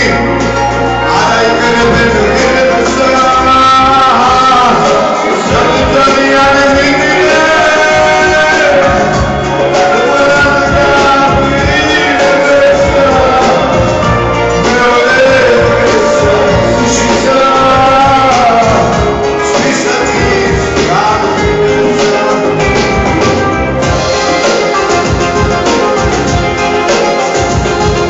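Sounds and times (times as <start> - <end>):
song with steady beat: 0.0 - 28.0.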